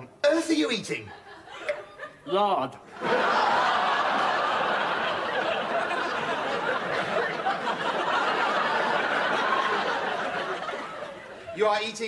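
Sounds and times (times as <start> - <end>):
studio audience laughing: 1.1 - 11.6.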